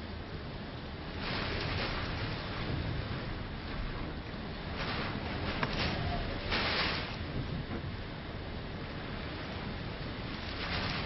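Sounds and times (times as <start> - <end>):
driving rain: 0.0 - 11.0
strong wind gusting: 0.0 - 11.0.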